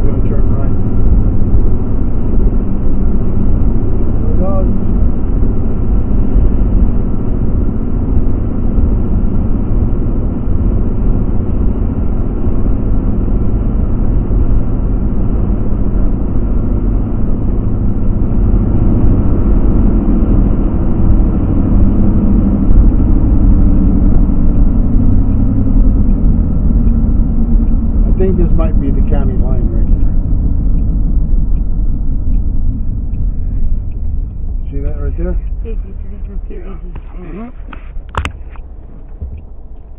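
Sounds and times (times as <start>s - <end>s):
car engine rumble: 0.0s - 39.9s
tyre noise on road: 0.0s - 39.9s.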